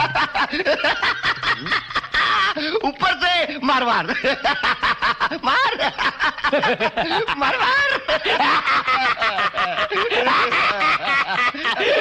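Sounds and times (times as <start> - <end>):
man laughing hard: 0.0 - 2.9, 4.1 - 12.0.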